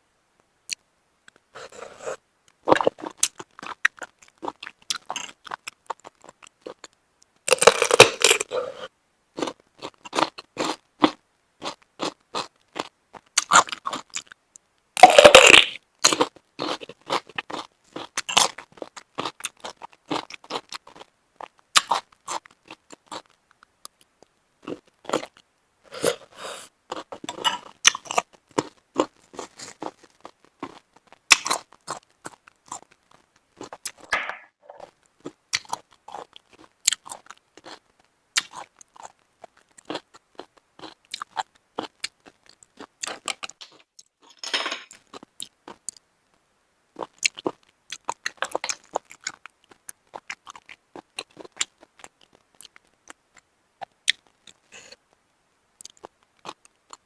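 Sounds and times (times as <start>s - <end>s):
wet chewing with crunches: 1.6s - 6.9s, 7.5s - 14.4s, 15.0s - 25.4s, 26.9s - 34.1s, 34.7s - 44.1s, 47.0s - 54.6s.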